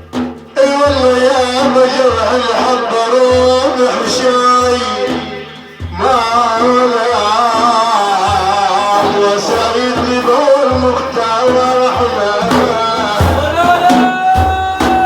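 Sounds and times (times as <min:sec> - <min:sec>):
hand drum strokes: 0:00.0 - 0:15.0
man singing devotional song: 0:00.5 - 0:15.0.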